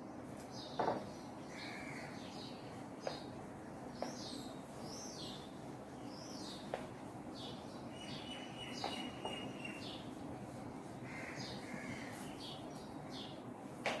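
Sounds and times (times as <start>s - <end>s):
birds chirping: 0.0s - 10.2s, 11.0s - 14.0s.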